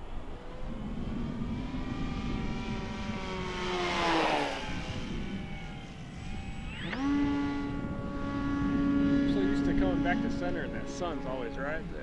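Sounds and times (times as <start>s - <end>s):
model plane electric motor whine: 0.0s - 12.0s
wind rumble on microphone: 0.0s - 12.0s.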